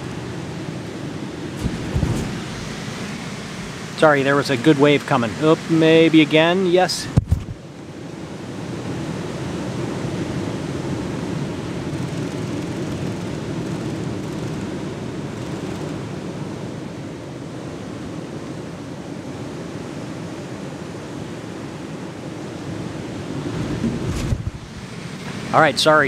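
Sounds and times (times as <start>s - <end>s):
ocean surf breaking on shore: 0.0s - 26.0s.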